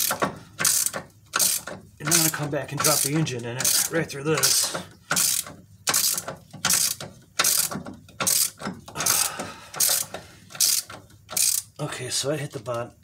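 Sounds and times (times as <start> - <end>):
socket ratchet clicking: 0.0 - 11.7.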